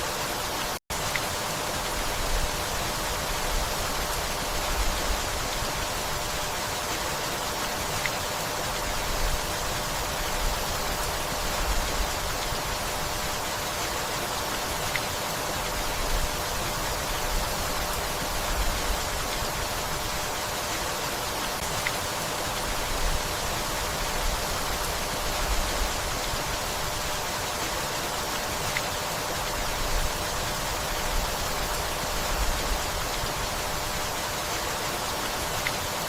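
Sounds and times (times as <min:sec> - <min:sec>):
steady rainfall: 0:00.0 - 0:36.0.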